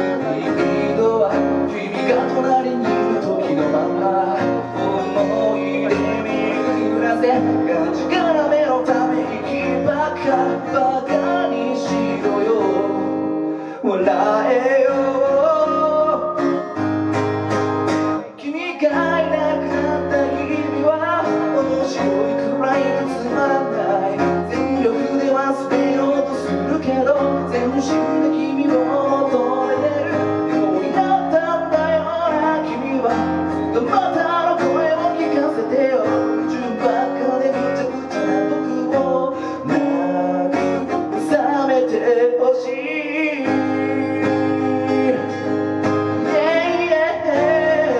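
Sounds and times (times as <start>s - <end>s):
man singing: 0.0s - 17.0s, 18.0s - 47.9s
acoustic guitar strumming: 0.0s - 47.9s.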